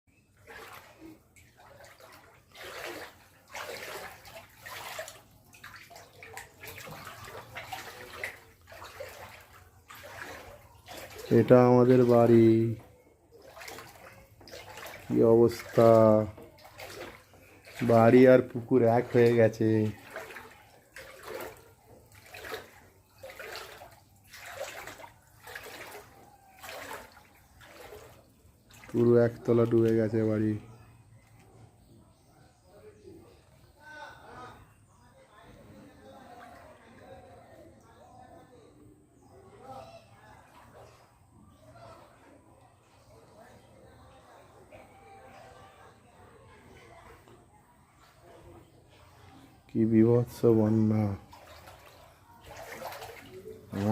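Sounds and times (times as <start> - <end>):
floodwater sloshing and splashing: 0.1 - 32.2, 34.2 - 38.4, 39.2 - 53.9.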